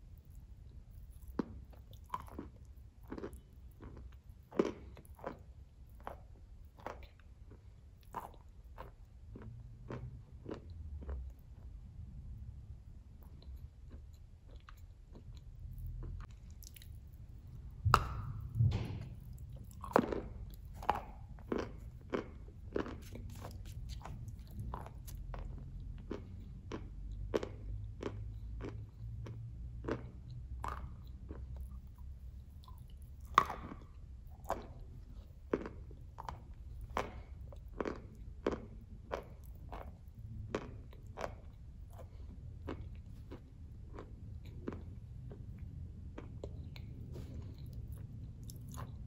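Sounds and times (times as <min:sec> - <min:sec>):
crunchy chewing: 0:00.1 - 0:11.7, 0:13.2 - 0:18.5, 0:19.1 - 0:49.0.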